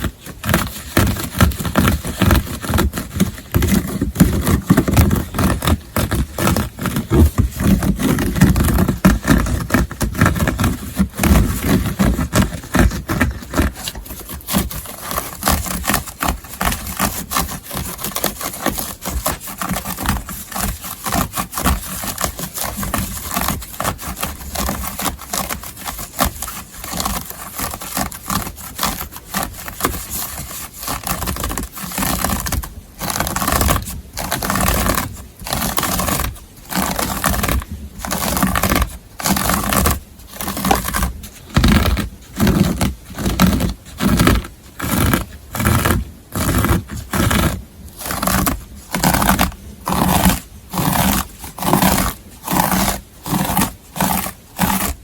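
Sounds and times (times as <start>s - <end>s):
scratching on fabric: 0.0s - 55.0s.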